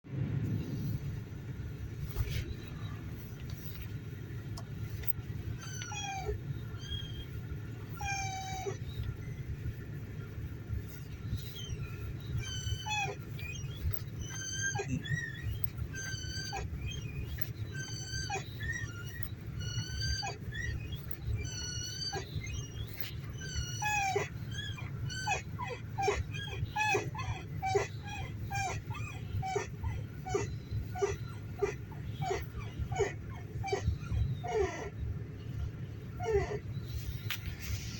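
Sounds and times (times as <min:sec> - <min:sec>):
steady low rumble: 0:00.0 - 0:37.9
suspension ball joint squeaking: 0:02.1 - 0:37.9.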